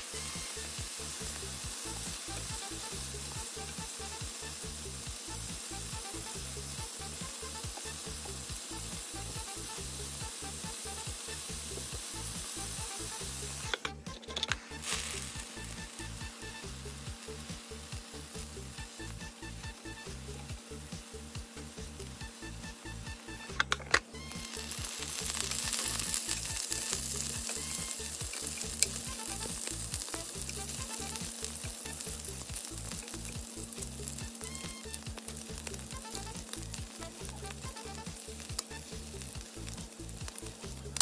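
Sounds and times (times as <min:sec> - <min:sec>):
ribs sizzling in a frying pan: 0:00.0 - 0:13.7, 0:14.6 - 0:23.5, 0:24.2 - 0:41.0.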